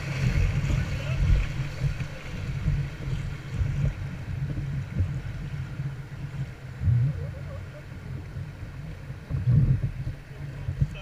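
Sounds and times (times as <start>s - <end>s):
faint river water: 0.0s - 11.0s
wind buffeting microphone: 0.0s - 11.0s.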